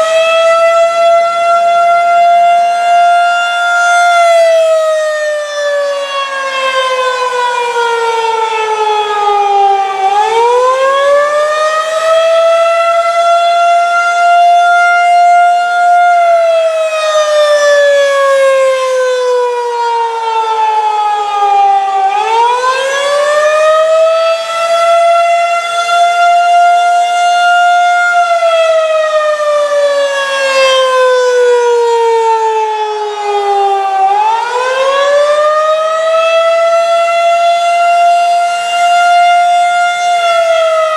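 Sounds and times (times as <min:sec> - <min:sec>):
rotating tornado siren: 0:00.0 - 0:40.9.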